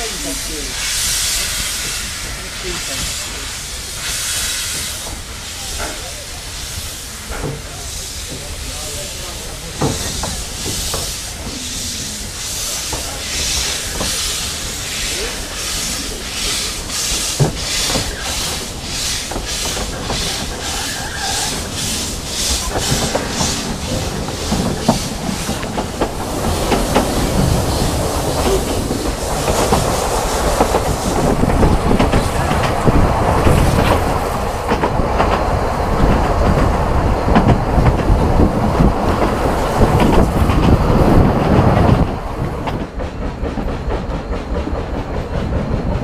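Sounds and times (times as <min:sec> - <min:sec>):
steam locomotive chuffing: 0:00.0 - 0:46.0
train rumble: 0:00.0 - 0:46.0
train wheels clickety-clack on rails: 0:00.0 - 0:46.0.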